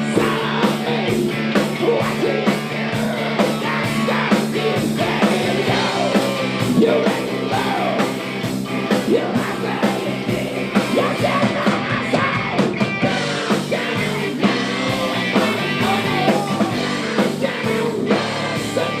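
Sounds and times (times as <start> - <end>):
person singing or yelling: 0.0 - 8.1, 8.9 - 19.0
rock music with drum beat: 0.0 - 19.0.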